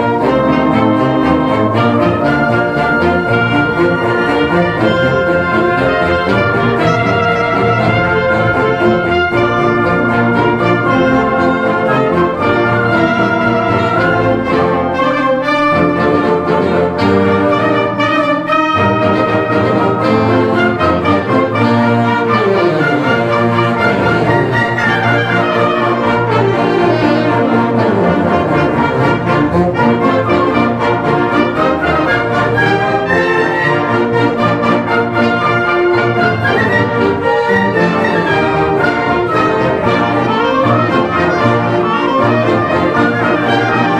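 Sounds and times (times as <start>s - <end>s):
concert band playing: 0.0s - 18.2s, 18.8s - 43.9s.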